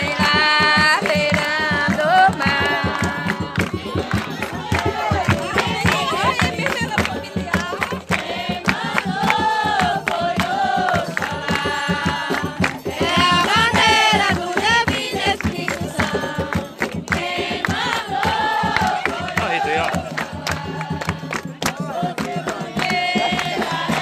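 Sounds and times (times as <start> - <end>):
group singing devotional song: 0.0 - 24.0
steady percussion beat: 0.0 - 24.0.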